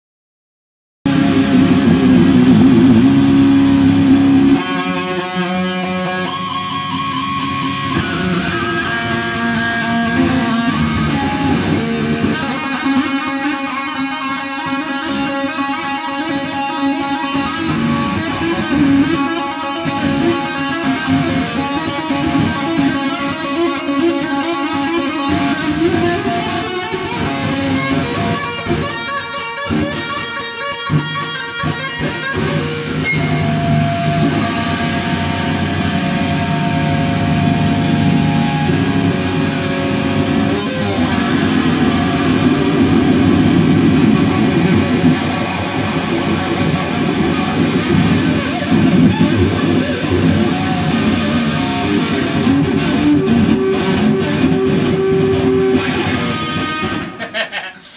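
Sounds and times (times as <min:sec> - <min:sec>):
electric guitar noise drone: 0:01.1 - 0:57.9.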